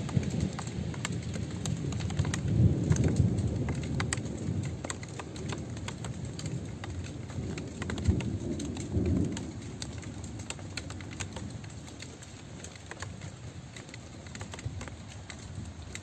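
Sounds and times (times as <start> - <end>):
drops ticking on a surface: 0.0 - 16.0
steady rain: 0.0 - 16.0.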